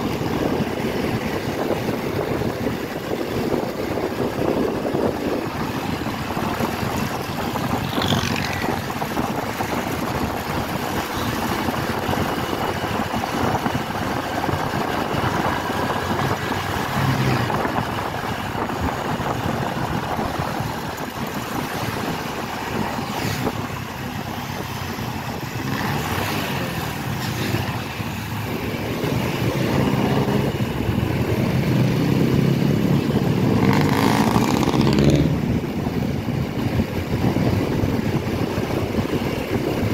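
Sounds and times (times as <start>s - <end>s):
motorcycle engine: 0.0s - 39.9s
surrounding traffic: 0.0s - 39.9s
wind and road noise: 0.0s - 39.9s.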